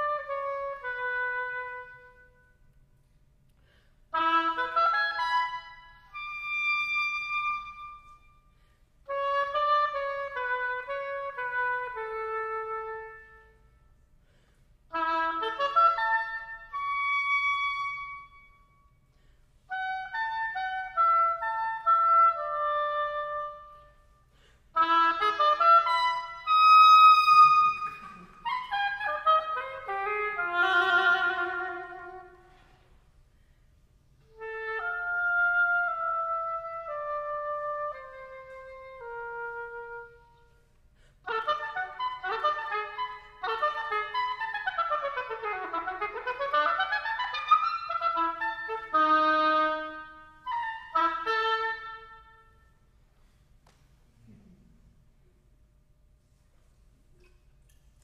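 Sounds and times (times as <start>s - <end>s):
solo clarinet melody: 0.0s - 2.7s, 4.1s - 14.1s, 14.9s - 18.9s, 19.6s - 33.0s, 34.2s - 52.9s.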